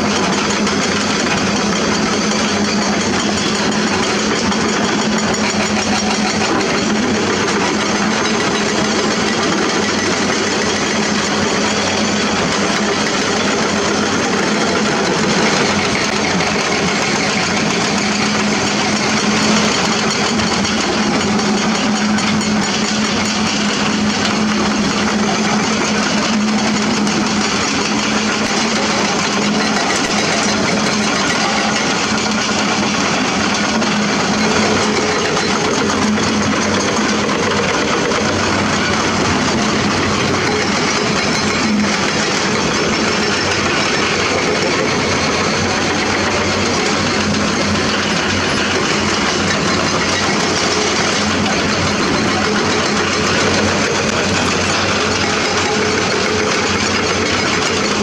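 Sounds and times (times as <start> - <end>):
excavator diesel engines running: 0.0 - 58.0.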